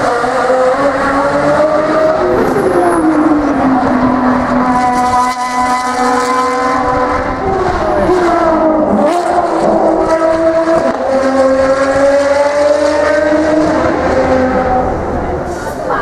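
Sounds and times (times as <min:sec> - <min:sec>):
race car engines revving past: 0:00.0 - 0:15.9.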